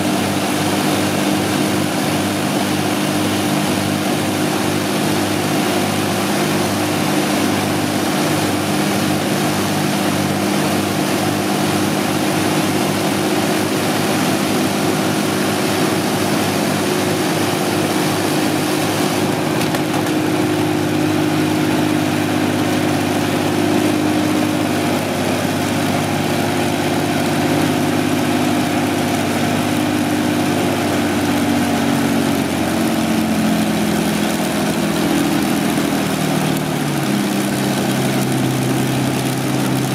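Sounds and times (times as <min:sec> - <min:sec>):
aero engines with propellers running: 0:00.0 - 0:39.9.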